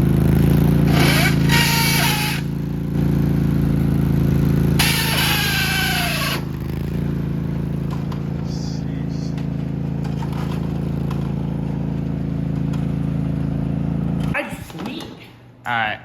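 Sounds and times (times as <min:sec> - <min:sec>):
lawn mower engine idling: 0:00.0 - 0:14.3.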